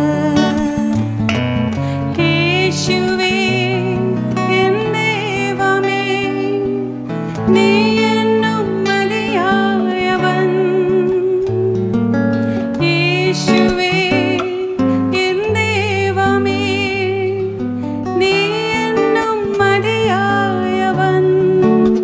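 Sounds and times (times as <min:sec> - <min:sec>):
plucked acoustic-electric guitar: 0:00.0 - 0:22.0
woman singing with vibrato: 0:00.0 - 0:22.0.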